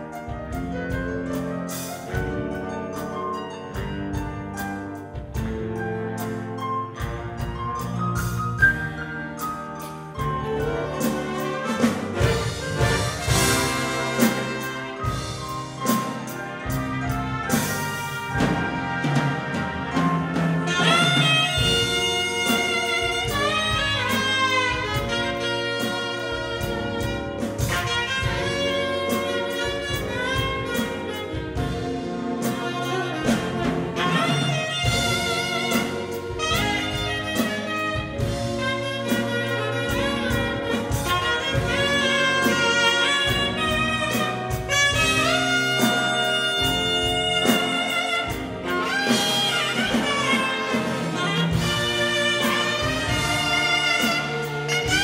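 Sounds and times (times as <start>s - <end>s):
jazz big band playing: 0.0s - 55.0s
saxophone solo: 10.2s - 55.0s.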